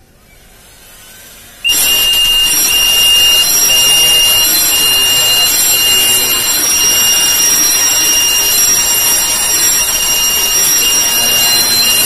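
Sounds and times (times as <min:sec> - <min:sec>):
hair dryer running: 0:00.6 - 0:12.0
pulsing high-pitched tone: 0:01.7 - 0:12.0.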